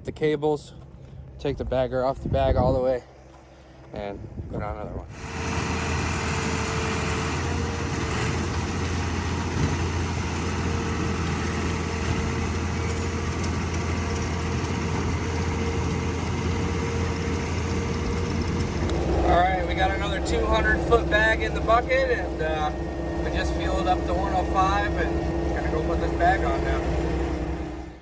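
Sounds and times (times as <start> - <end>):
heavy machine engine running: 5.0 - 28.0.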